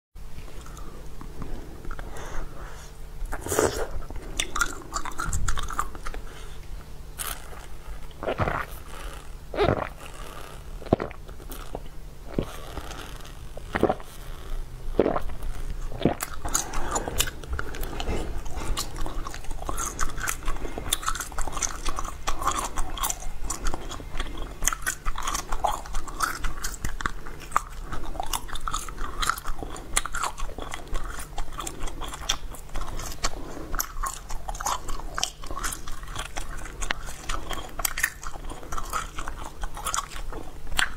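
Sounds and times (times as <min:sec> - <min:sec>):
person chewing crunchy food: 0:00.5 - 0:40.9.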